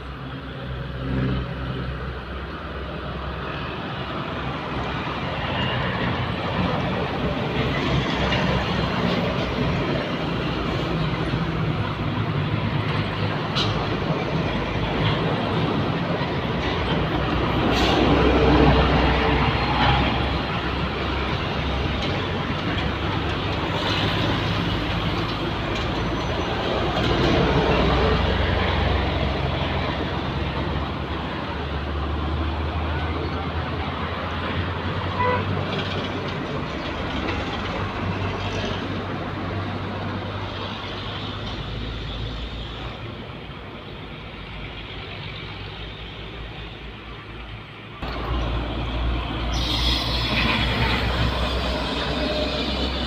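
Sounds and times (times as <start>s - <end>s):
heavy trucks driving past: 0.0s - 53.0s.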